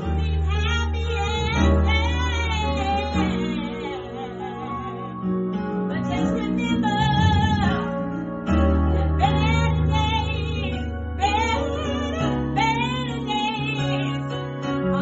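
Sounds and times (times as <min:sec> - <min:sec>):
gospel singer with vibrato: 0:00.0 - 0:15.0
instrumental backing with bass: 0:00.0 - 0:15.0.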